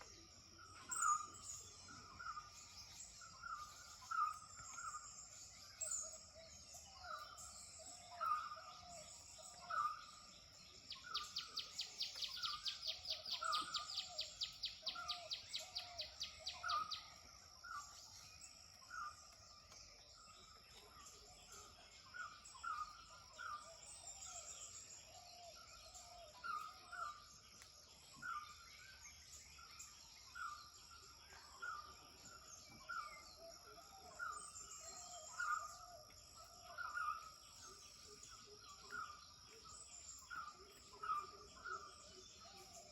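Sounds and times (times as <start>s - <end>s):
birds calling: 0.6s - 42.9s.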